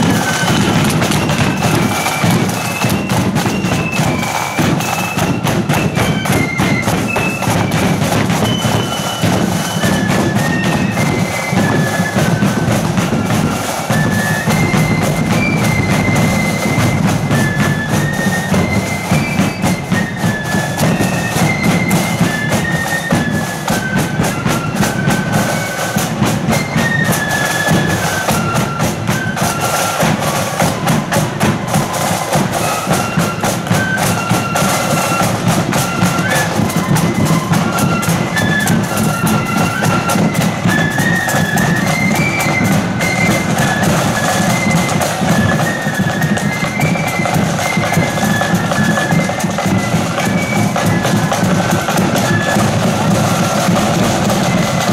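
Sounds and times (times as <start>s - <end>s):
high flutes playing melody: 0.0s - 54.9s
marching drums: 0.0s - 54.9s.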